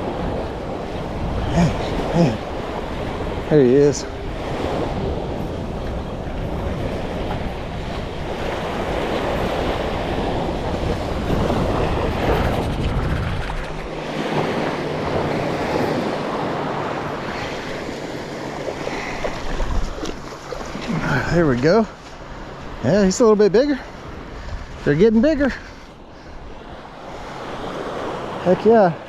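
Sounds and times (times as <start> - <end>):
surf washing onto beach: 0.0 - 25.7
wind buffeting microphone: 0.0 - 28.4.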